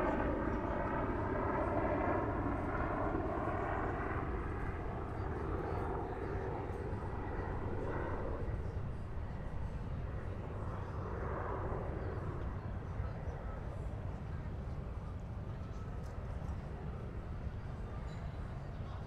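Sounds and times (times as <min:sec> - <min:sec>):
aircraft engine passing by: 0:00.0 - 0:19.0
low rumble of harbour ambience: 0:00.0 - 0:19.0.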